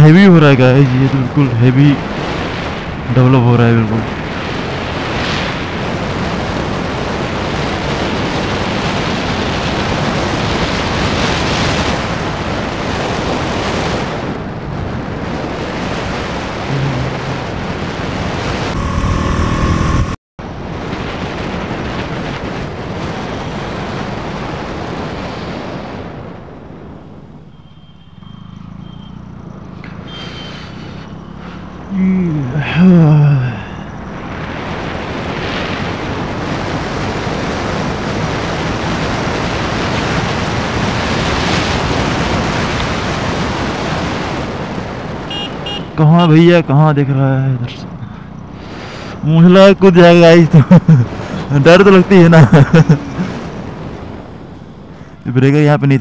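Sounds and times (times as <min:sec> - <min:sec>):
motorcycle road and engine noise: 0:00.0 - 0:56.0
wind rushing over microphone: 0:00.5 - 0:27.4, 0:33.4 - 0:46.6, 0:47.8 - 0:55.4.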